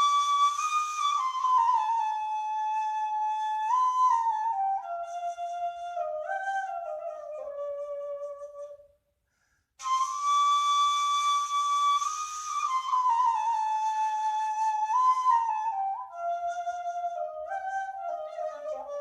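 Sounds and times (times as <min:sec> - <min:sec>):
shepherd's flute melody: 0:00.0 - 0:08.9, 0:09.8 - 0:19.0.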